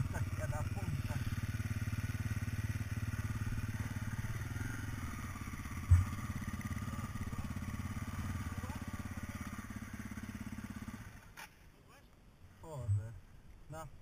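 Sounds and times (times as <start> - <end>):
dirt bike engine idling: 0.0 - 11.7.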